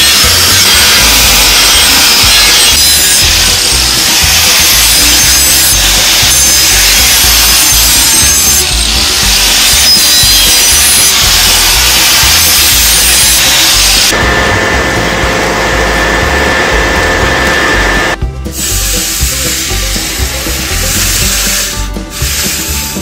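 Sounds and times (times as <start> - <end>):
angle grinder grinding steel: 0.0 - 23.0.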